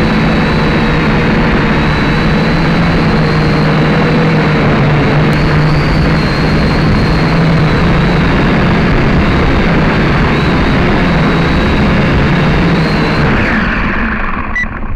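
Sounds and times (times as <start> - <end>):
wind rumble on microphone: 0.0 - 14.6
quadcopter motors whining: 0.0 - 14.9.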